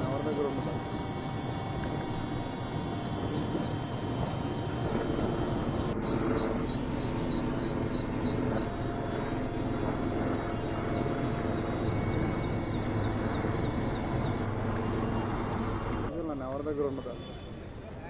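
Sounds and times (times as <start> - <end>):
helicopter humming: 0.0 - 16.1.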